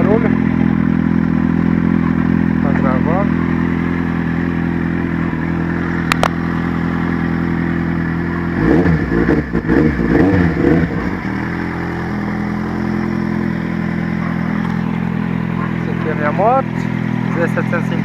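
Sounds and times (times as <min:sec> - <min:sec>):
faint exhaust ticking: 0:00.0 - 0:18.0
motorcycle engine idling and revving: 0:00.0 - 0:18.0.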